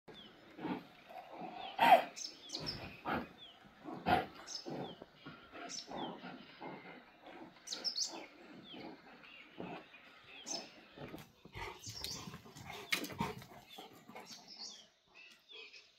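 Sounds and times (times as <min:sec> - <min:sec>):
dogs growling and barking: 0:00.1 - 0:14.4.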